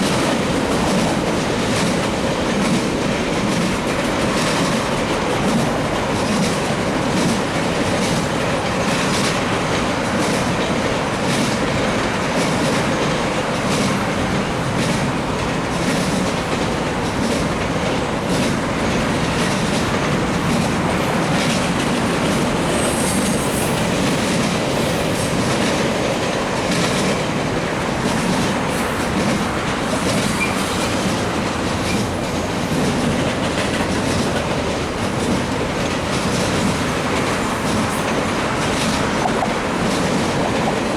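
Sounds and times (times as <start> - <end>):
train wheels rolling on rails: 0.0 - 40.9
wheels clicking over rail joints: 0.0 - 40.9.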